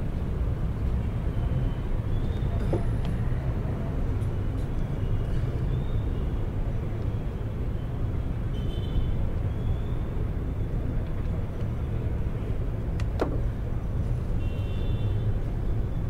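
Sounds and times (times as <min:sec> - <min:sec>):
low rumble of city ambience: 0:00.0 - 0:16.0.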